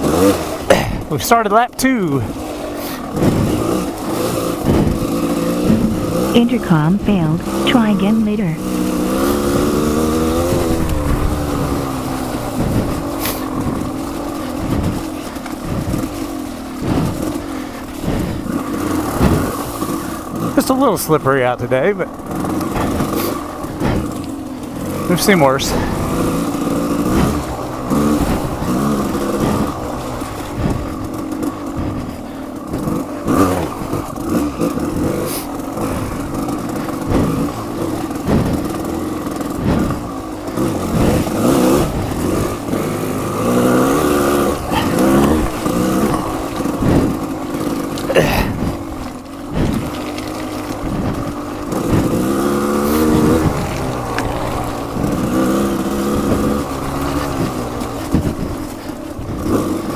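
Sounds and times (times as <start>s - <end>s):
motorcycle engine revving: 0.0s - 59.9s
knocks and scrapes: 8.9s - 20.7s, 21.8s - 59.9s.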